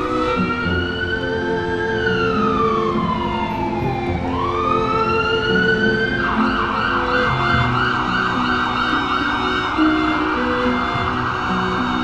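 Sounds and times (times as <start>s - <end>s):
low sustained music notes: 0.0s - 12.0s
siren wailing: 0.0s - 12.0s.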